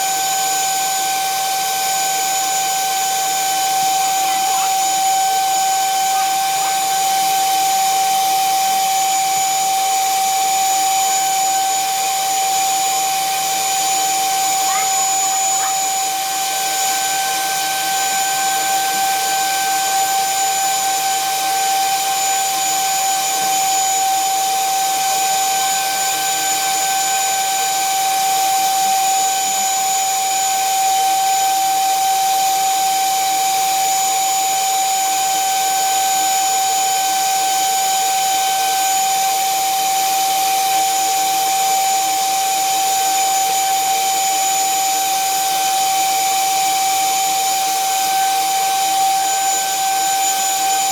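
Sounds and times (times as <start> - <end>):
electric drill whining: 0.0 - 50.9.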